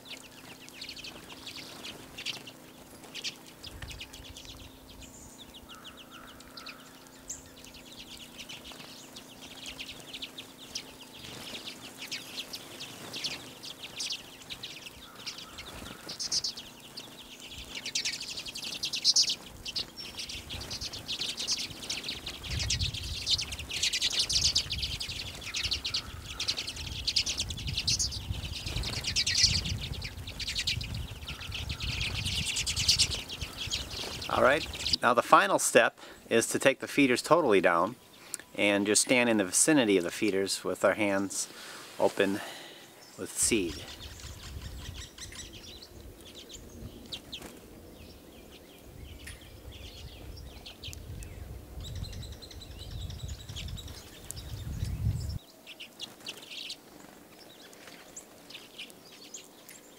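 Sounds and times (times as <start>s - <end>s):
flock of birds twittering: 0.0s - 59.9s.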